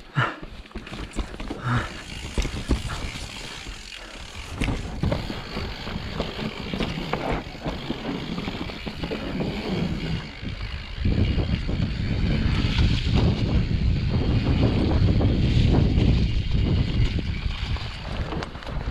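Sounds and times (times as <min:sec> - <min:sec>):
bike knocking and rattling: 0:00.0 - 0:18.9
bike tyres rolling over rough ground: 0:00.0 - 0:18.9
wind on microphone: 0:01.7 - 0:18.9.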